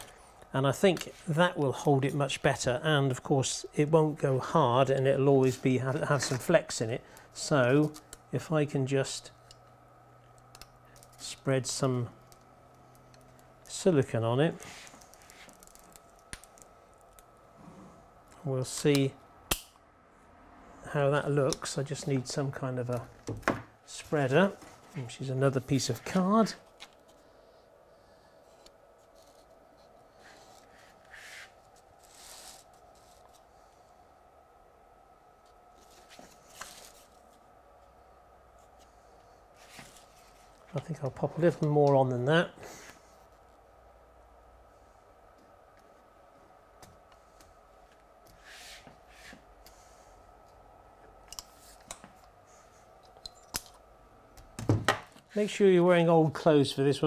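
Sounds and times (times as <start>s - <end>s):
faint room hum: 0.0s - 57.0s.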